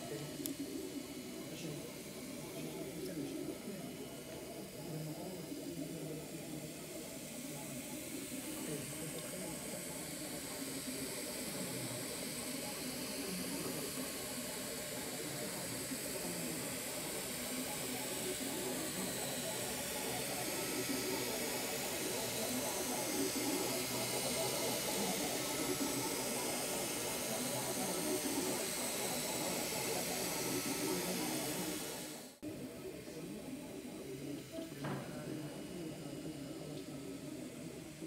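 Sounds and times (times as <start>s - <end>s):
cooling fans whirring: 0.0s - 38.0s
stepper motor whine: 0.0s - 38.0s.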